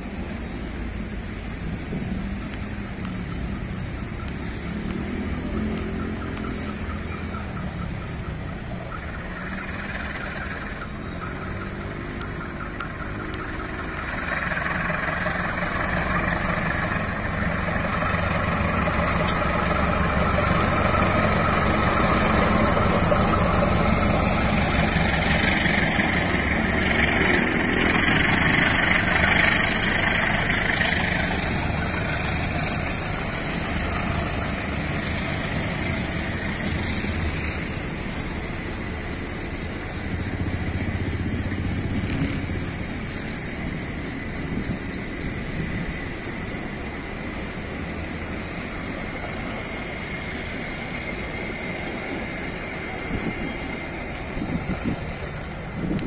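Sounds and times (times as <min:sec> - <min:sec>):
locomotive engine under load: 0:00.0 - 0:56.0
train wheels rolling on rails: 0:00.0 - 0:56.0.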